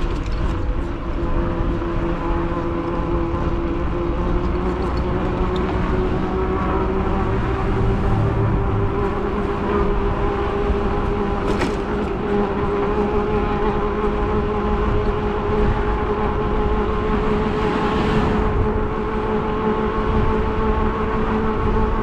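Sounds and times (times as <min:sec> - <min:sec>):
electric motor whine: 0:00.0 - 0:22.0
road rumble: 0:00.0 - 0:22.0
wind: 0:00.0 - 0:22.0.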